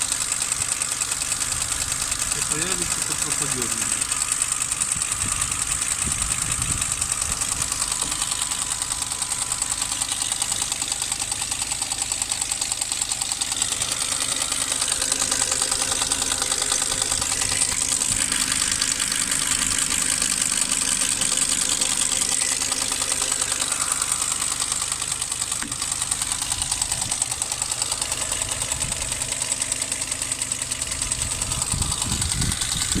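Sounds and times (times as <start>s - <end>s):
car engine idling: 0.0s - 33.0s
fast tapping engine knock: 0.0s - 33.0s.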